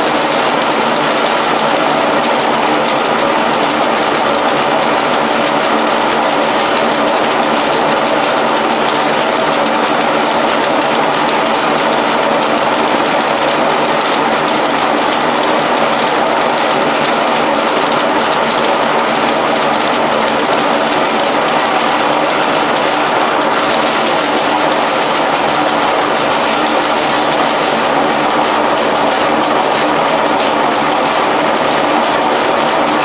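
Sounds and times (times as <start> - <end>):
power looms clattering: 0.0 - 33.0.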